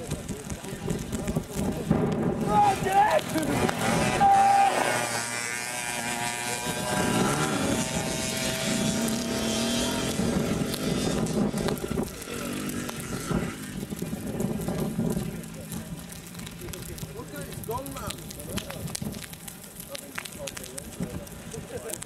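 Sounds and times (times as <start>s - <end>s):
quad bike engines revving: 0.0s - 22.0s.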